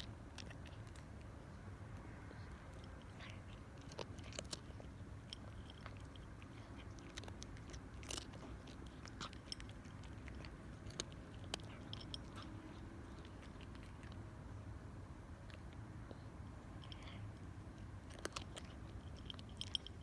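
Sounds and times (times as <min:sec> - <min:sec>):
cat crunching dry kibble: 0:00.0 - 0:14.6, 0:16.6 - 0:20.0
faint low hum: 0:00.0 - 0:20.0.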